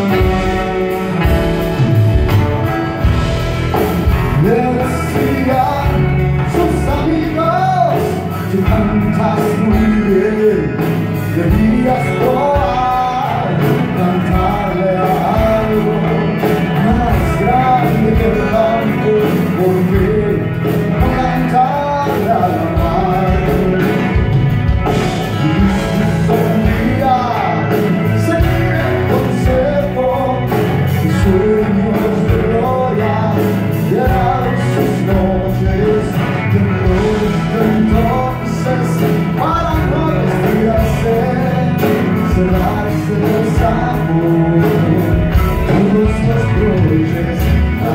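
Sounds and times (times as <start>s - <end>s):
live band music: 0.0s - 47.9s.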